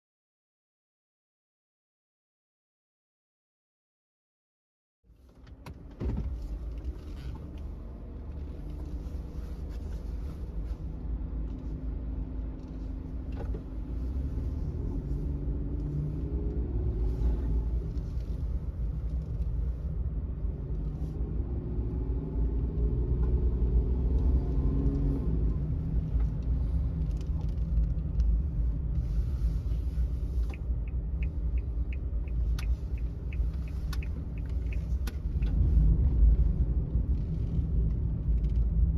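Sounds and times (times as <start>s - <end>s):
van engine from inside cabin: 5.1s - 38.9s.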